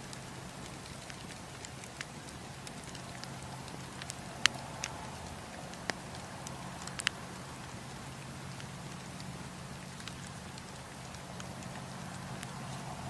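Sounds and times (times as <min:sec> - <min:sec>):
burning wood popping: 0:00.0 - 0:13.0
campfire crackling: 0:00.0 - 0:13.0.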